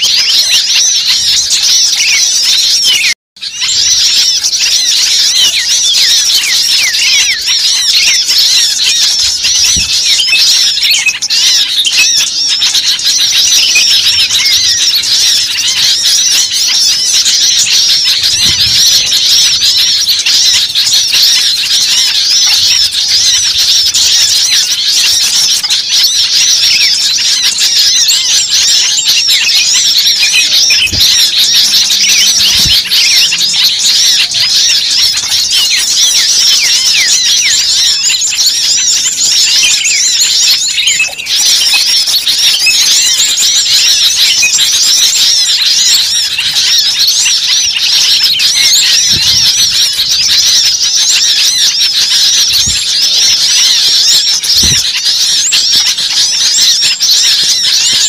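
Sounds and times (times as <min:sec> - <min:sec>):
many birds chirping and squawking: 0:00.0 - 0:58.0.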